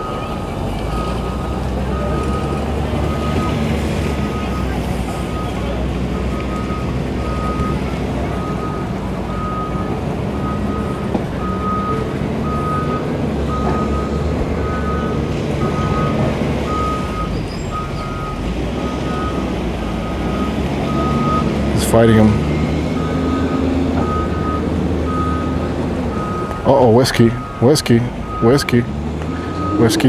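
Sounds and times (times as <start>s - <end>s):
engines idling: 0.0s - 30.0s
reversing alarm beeping: 0.0s - 30.0s.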